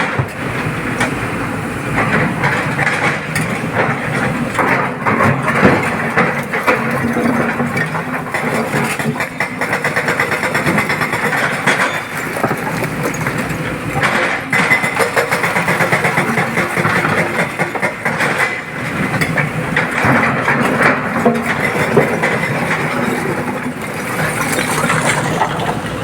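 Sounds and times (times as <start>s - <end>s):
heavy diesel machinery running: 0.0s - 26.0s.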